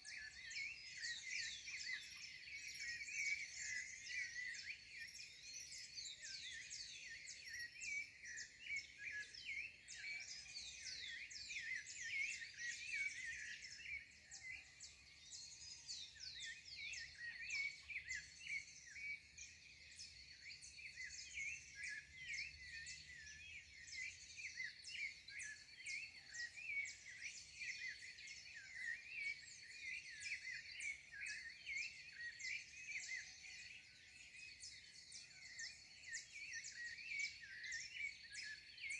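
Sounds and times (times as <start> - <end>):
many birds chirping: 0.0 - 38.9.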